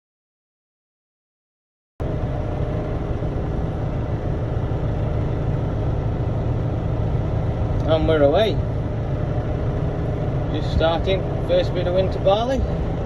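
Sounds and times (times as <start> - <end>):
heavy diesel engine running: 2.0 - 13.0.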